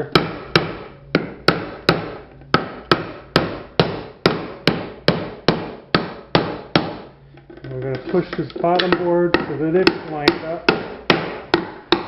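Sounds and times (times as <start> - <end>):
hammer driving nails into wood: 0.2 - 7.1, 8.8 - 12.0.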